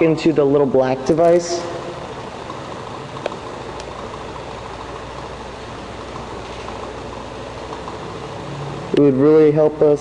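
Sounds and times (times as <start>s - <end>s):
low mechanical hum with hiss: 0.0s - 10.0s.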